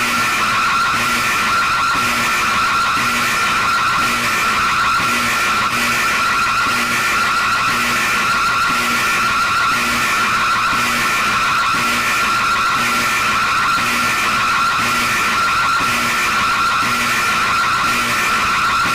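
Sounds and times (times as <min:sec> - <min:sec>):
harsh electronic alarm tone: 0:00.0 - 0:18.9.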